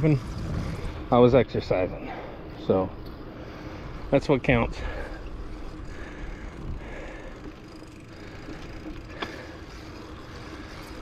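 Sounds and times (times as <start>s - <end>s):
bicycle tyres on asphalt: 0.0s - 11.0s
wind: 0.0s - 11.0s.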